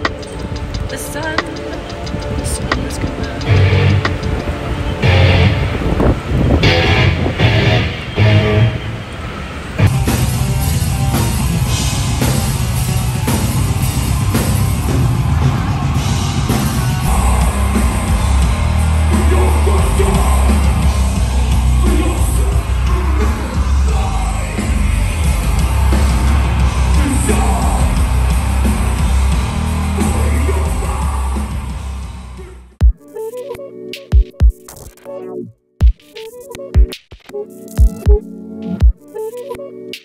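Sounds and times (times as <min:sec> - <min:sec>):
heavy metal music: 0:00.0 - 0:34.8.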